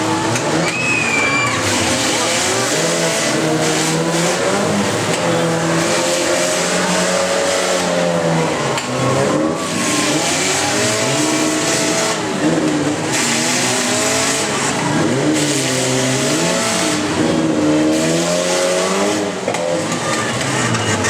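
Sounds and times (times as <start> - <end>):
car engines revving hard: 0.0 - 21.0
crowd noise: 0.0 - 21.0.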